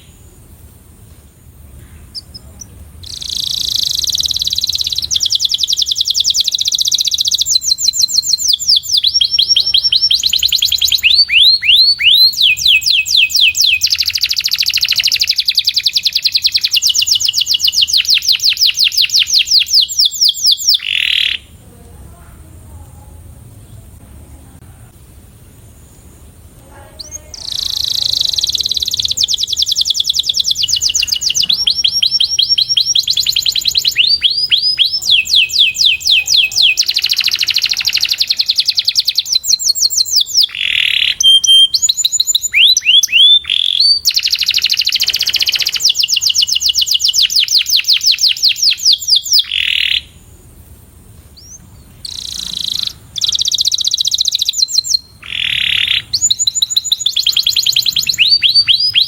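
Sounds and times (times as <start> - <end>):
canary singing trills: 0.0 - 21.7, 25.5 - 50.5, 51.4 - 59.0.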